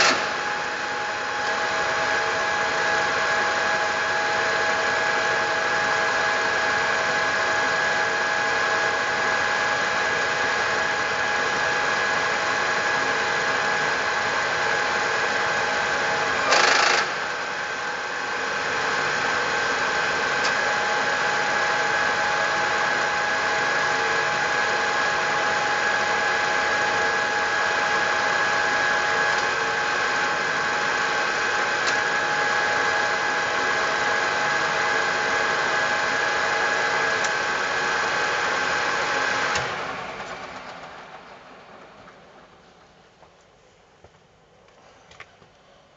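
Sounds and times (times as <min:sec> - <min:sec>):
milling machine whining: 0:00.0 - 0:42.0.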